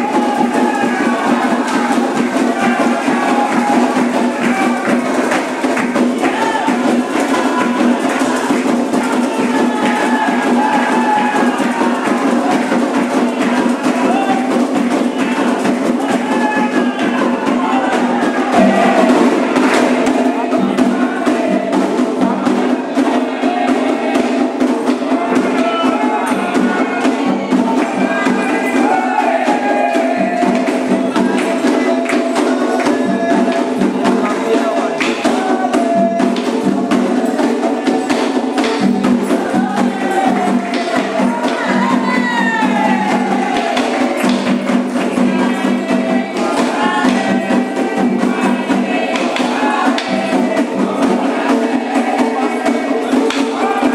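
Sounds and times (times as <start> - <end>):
group of voices singing: 0.0 - 53.9
hand drums and percussion: 0.0 - 53.9.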